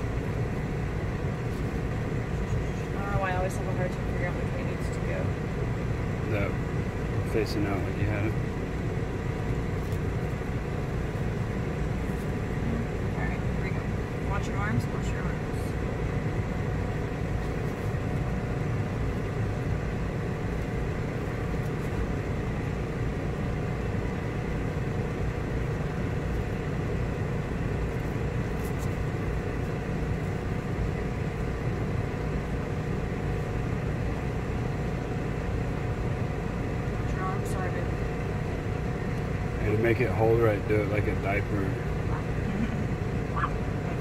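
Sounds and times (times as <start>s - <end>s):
low mechanical drone: 0.0s - 44.0s.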